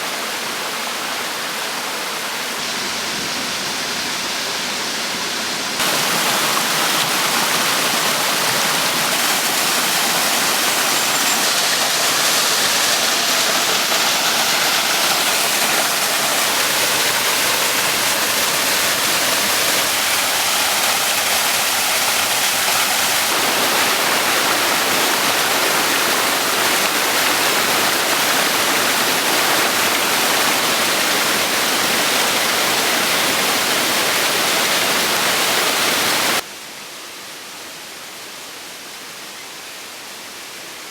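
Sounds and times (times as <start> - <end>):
water rushing over waterfall: 0.0 - 36.4.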